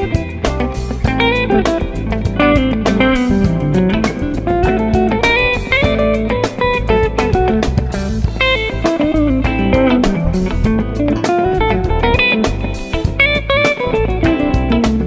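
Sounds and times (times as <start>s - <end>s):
electric guitar lead lines: 0.0s - 15.0s
steady bass: 0.0s - 15.0s.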